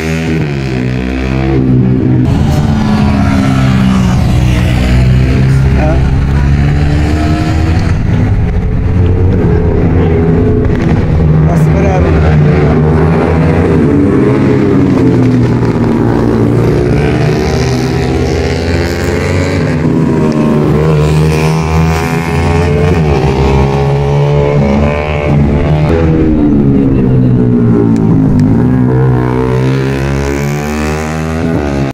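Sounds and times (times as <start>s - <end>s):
motorcycle engines revving and passing: 0.0s - 31.9s.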